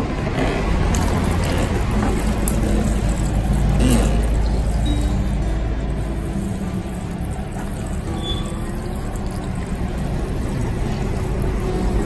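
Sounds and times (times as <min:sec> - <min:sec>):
shower sprayer rushing water: 0:00.9 - 0:12.0.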